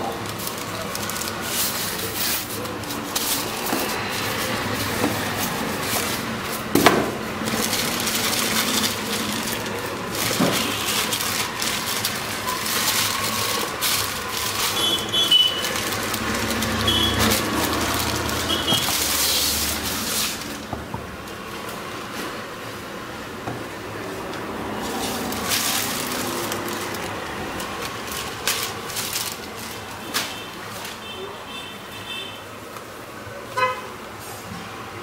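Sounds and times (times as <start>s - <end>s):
plastic bag crinkling: 0.0s - 22.4s, 23.7s - 31.0s.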